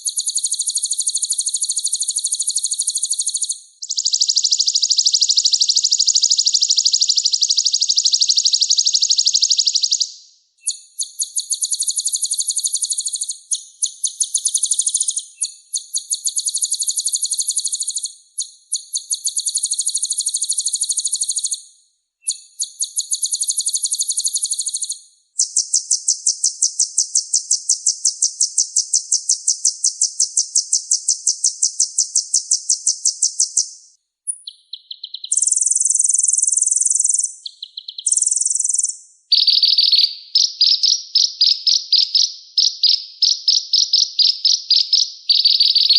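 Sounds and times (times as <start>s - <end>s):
sunbird singing high trills: 0.0s - 21.6s, 22.2s - 45.9s.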